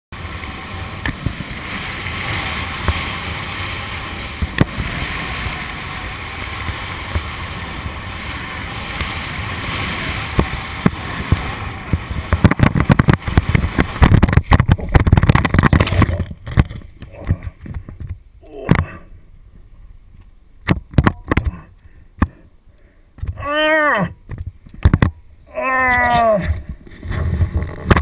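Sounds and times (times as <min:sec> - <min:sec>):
low thumps and wind buffeting: 0:00.1 - 0:23.4, 0:24.1 - 0:25.5, 0:26.4 - 0:28.0
wind rushing on microphone: 0:00.2 - 0:19.1, 0:23.2 - 0:28.0.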